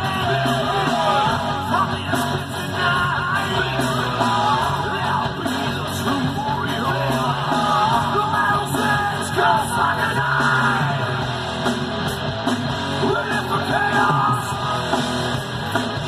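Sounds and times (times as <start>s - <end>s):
electric guitar: 0.0s - 16.0s
rock song with singing: 0.0s - 16.0s.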